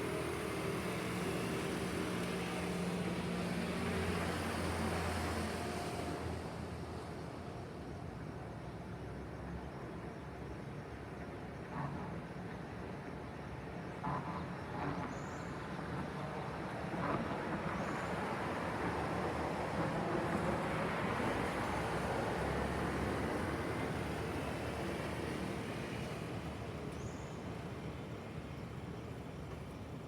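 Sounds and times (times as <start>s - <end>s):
city traffic hiss and rumble: 0.0s - 30.0s.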